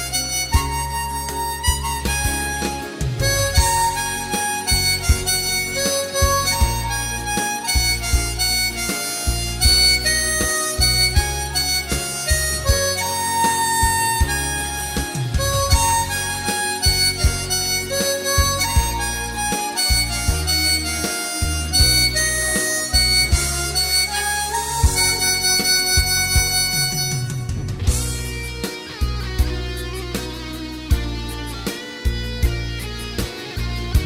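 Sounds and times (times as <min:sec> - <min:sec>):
backing track with bass and beat: 0:00.0 - 0:34.0
harmonica playing slow melody: 0:00.0 - 0:34.0.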